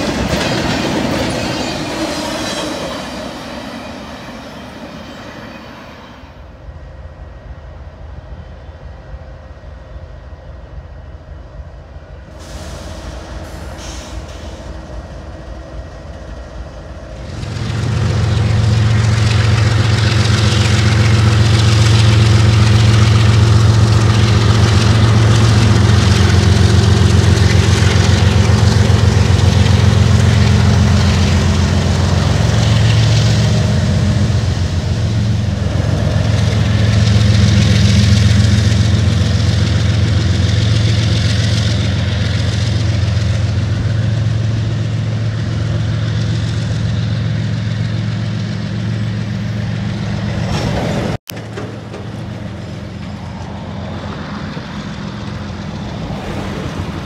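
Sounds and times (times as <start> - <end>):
locomotive engine drone: 0.0 - 57.0
train wheel and rail noise: 0.0 - 57.0.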